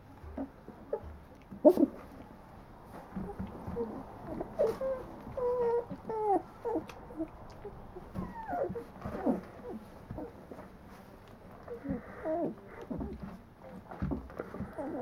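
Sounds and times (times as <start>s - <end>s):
puppies whimpering and squeaking: 0.2s - 2.2s, 3.0s - 15.0s.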